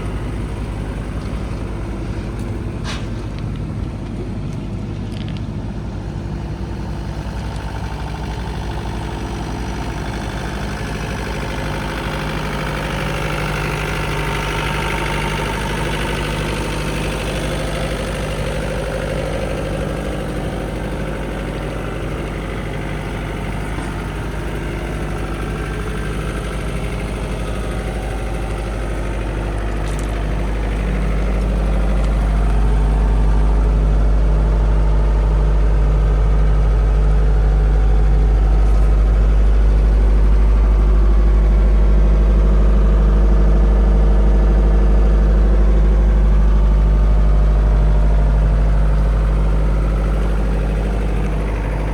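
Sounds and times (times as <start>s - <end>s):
diesel engine idling: 0.0s - 51.9s.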